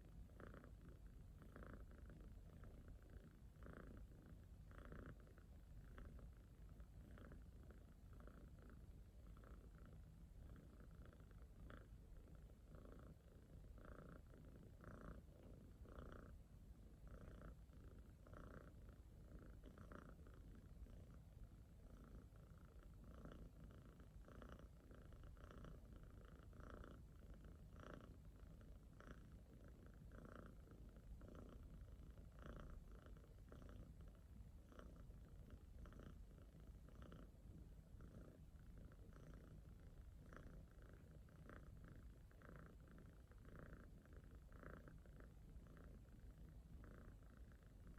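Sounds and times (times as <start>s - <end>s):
cat purring: 0.0s - 47.9s.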